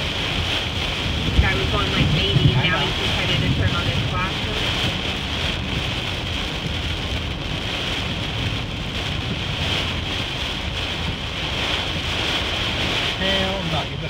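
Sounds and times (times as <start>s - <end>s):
heavy rain on car: 0.0s - 14.0s
low rumble: 0.0s - 14.0s.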